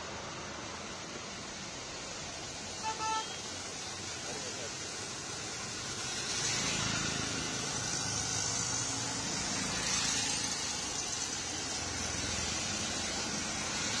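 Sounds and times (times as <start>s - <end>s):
heavy rain: 0.0s - 14.0s
traffic on a wet street: 0.0s - 14.0s.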